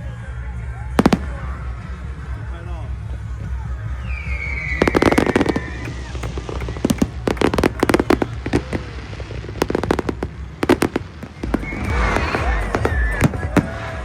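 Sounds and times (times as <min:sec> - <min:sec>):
fireworks bangs and crackles: 0:00.0 - 0:03.3, 0:03.9 - 0:14.0.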